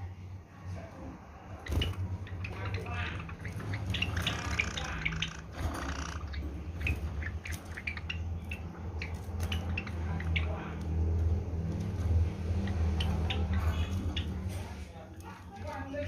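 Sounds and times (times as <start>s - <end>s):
sparrows chip calls: 1.6s - 16.0s.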